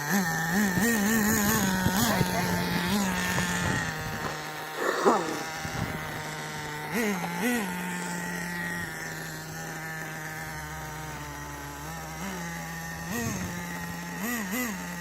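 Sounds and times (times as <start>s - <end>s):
small engine idling with throttle blips: 0.0s - 15.0s.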